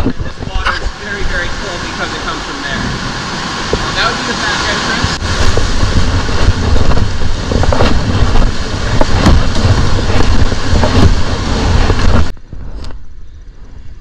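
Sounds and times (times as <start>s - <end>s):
water splashing around kayak: 0.0s - 12.4s
wind buffeting microphone: 0.0s - 14.0s.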